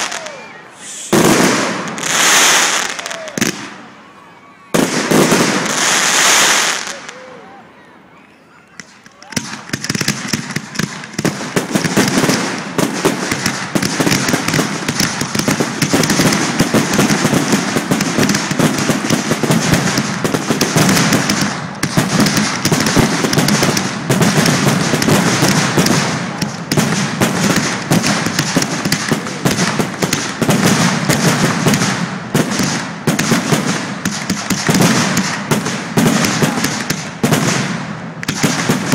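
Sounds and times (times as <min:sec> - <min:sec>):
fireworks bangs and crackling: 0:00.0 - 0:04.1, 0:04.7 - 0:07.3, 0:08.7 - 0:38.9.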